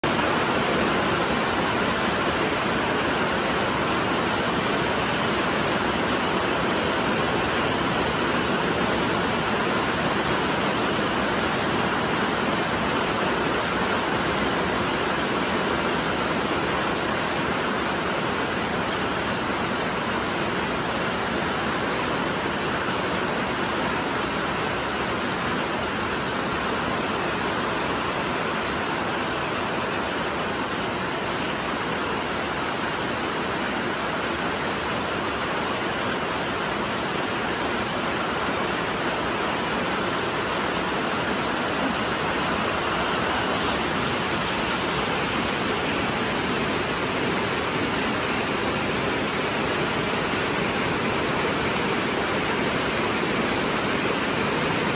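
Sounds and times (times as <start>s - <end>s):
rain on forest foliage: 0.0s - 54.9s.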